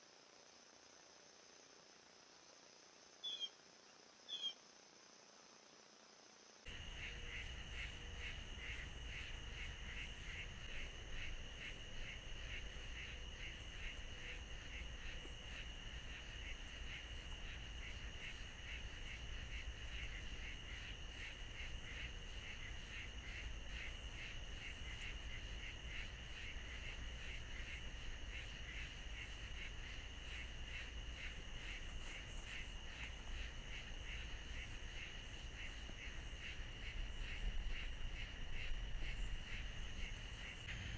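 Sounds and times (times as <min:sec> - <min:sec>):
insects or frogs trilling: 0:00.0 - 0:40.9
low background rumble: 0:06.7 - 0:40.9.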